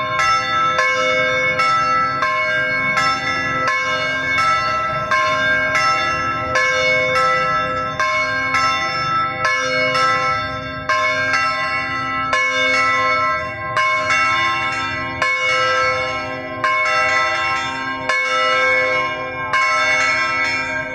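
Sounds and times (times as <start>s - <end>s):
church bells ringing: 0.0s - 20.9s.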